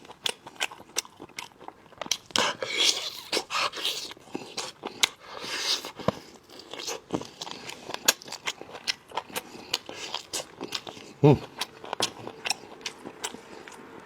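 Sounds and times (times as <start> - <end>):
person chewing and crunching: 0.0 - 14.0.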